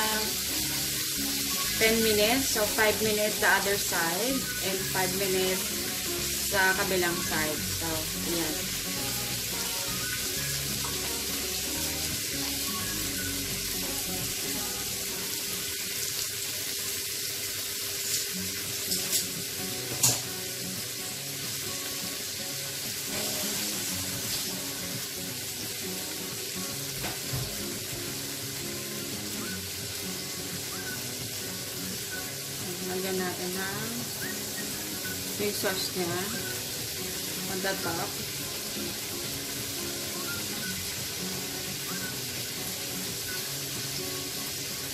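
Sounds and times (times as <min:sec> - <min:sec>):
shrimp sizzling in butter: 0:00.0 - 0:44.9.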